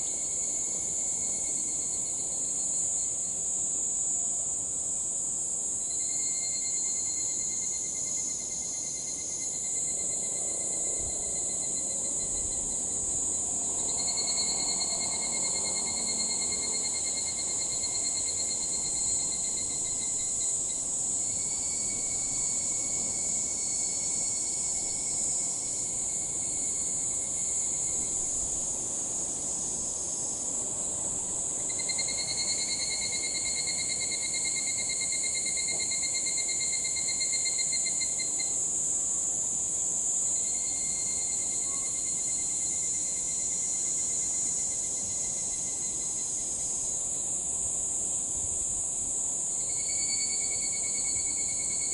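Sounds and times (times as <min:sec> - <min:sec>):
cicadas calling in pulsing phrases: 0:00.0 - 0:51.9
high-pitched insect drone: 0:05.8 - 0:28.7, 0:31.6 - 0:39.4, 0:40.0 - 0:48.0, 0:48.8 - 0:51.9.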